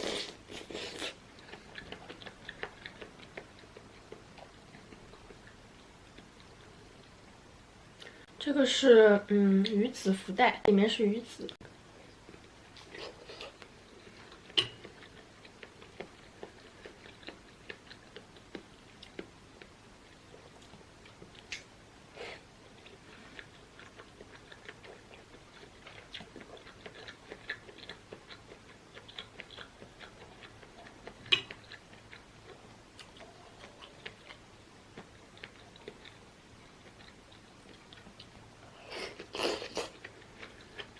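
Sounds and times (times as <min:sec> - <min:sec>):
person chewing: 0:00.0 - 0:07.2, 0:12.0 - 0:40.9.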